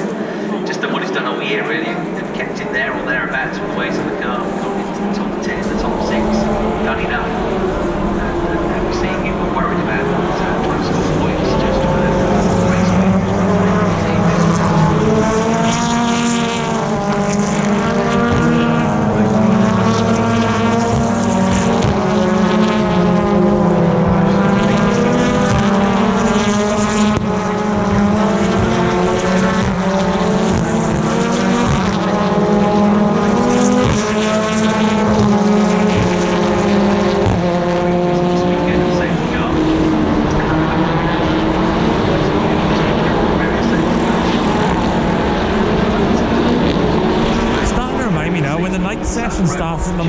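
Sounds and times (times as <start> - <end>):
racing cars passing: 0.0 - 50.0.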